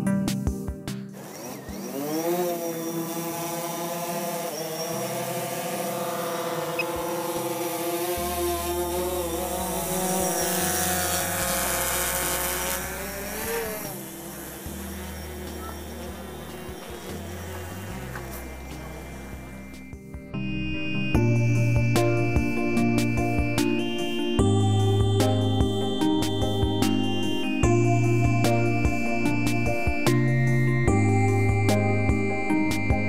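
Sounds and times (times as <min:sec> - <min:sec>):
drone propellers whining: 0:01.2 - 0:33.0.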